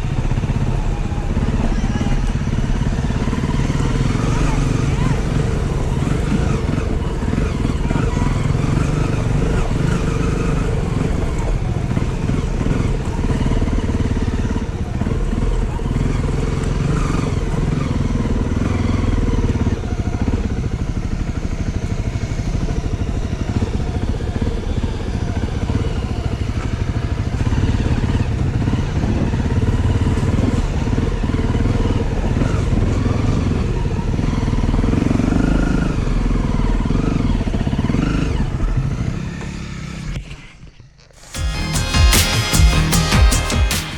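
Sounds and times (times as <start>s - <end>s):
motorbike engine running: 0.0s - 40.5s, 41.2s - 43.9s.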